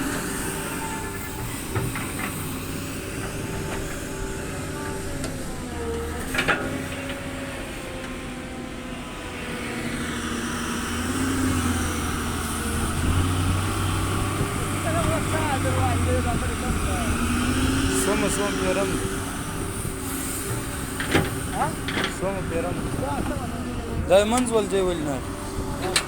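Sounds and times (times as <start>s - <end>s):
diesel machinery running: 0.0s - 26.0s.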